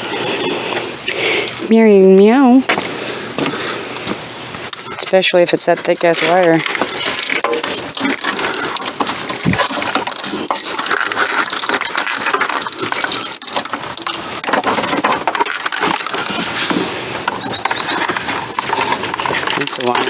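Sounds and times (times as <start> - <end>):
metallic clinks and rattles of tools: 3.8 - 20.0.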